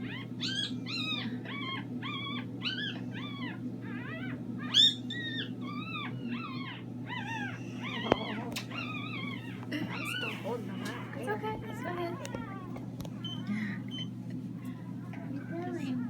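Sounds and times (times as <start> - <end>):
puppies crying: 0.0 - 16.0.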